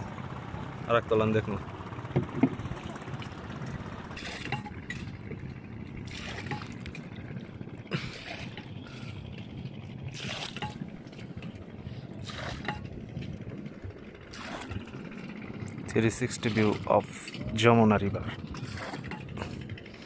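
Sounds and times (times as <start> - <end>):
low rumble: 0.0 - 20.0
water splashing against boat: 0.0 - 20.0.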